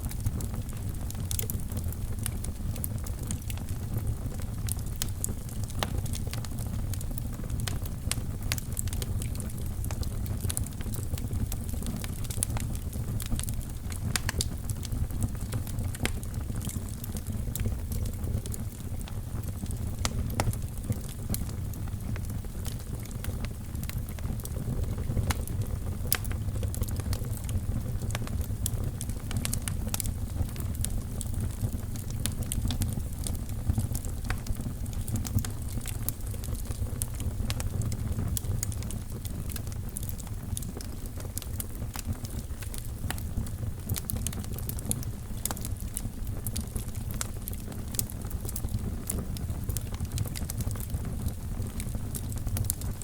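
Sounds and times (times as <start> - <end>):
fire crackling and popping: 0.0 - 53.0.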